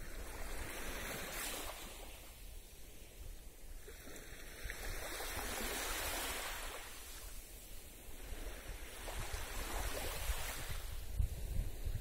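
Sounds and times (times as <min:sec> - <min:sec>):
small waves washing onto beach: 0:00.0 - 0:12.0.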